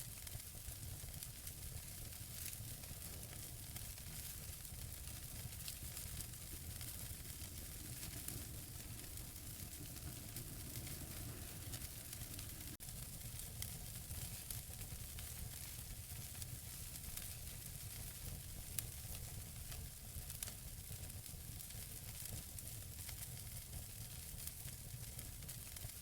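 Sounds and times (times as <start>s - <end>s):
wood fire burning: 0.0s - 26.0s.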